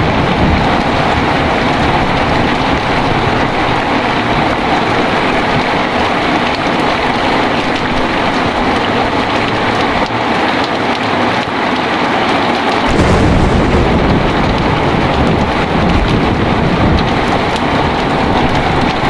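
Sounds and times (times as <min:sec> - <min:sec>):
thunder rumbling: 0:00.0 - 0:10.4, 0:12.9 - 0:19.0
heavy rain falling: 0:00.0 - 0:19.0.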